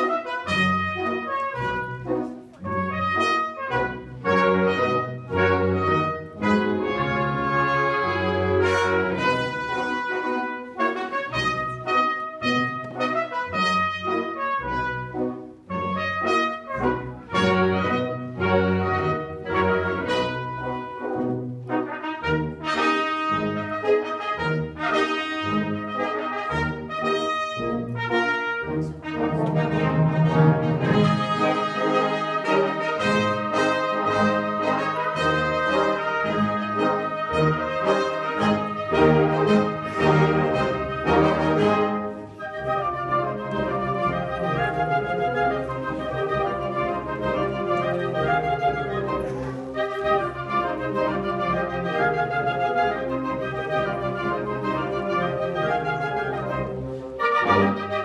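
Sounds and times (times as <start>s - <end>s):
wind band playing: 0.0s - 58.0s.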